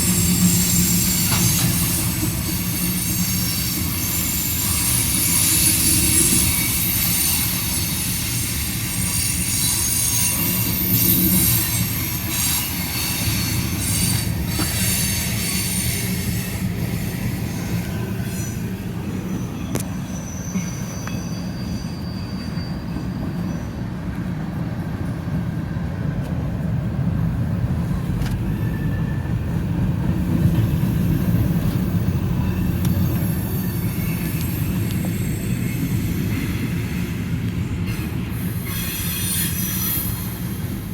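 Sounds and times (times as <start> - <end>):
high-pitched wheel squeal: 0.0 - 23.9, 30.6 - 40.8
freight train rolling past: 0.0 - 40.9.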